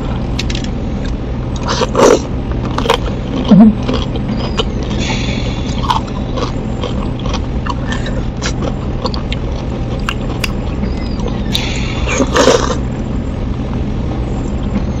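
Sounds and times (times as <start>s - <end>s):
low falling hum: 0.0s - 15.0s
person chewing food: 0.4s - 12.8s.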